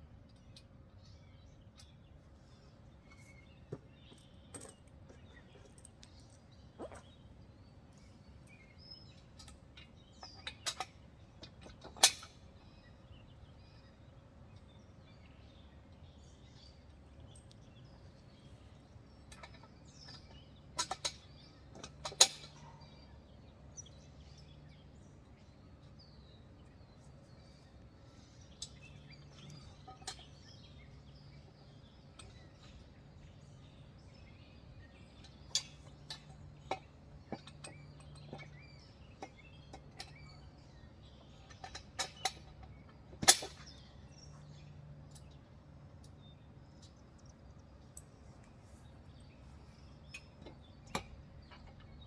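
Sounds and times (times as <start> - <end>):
birds chirping faintly: 0.0 - 52.0.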